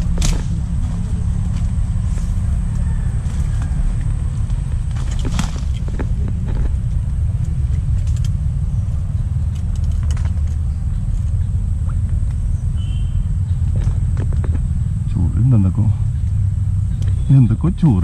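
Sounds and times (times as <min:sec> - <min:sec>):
wind rumble on microphone: 0:00.0 - 0:15.3.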